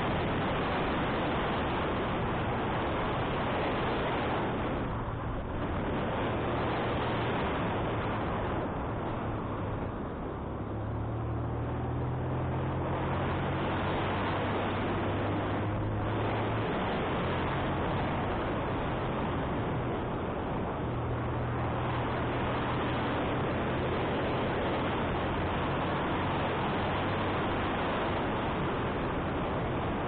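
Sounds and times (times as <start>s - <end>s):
motorcycle engine hum: 0.0s - 30.0s
wind rushing over microphone: 0.0s - 30.0s.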